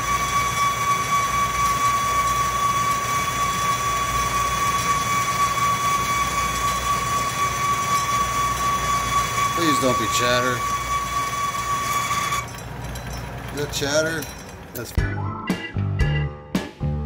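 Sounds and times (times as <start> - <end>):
lathe running hum: 0.0 - 15.0
boring bar chattering whine: 0.0 - 15.1.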